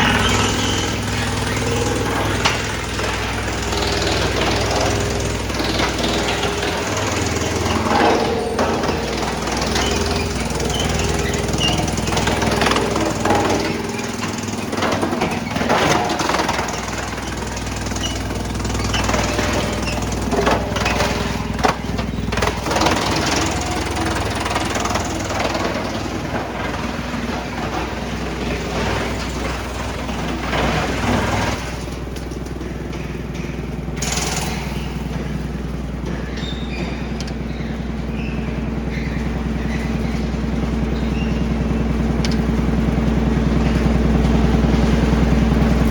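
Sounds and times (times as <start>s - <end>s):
wood chipper engine droning: 0.0s - 45.9s.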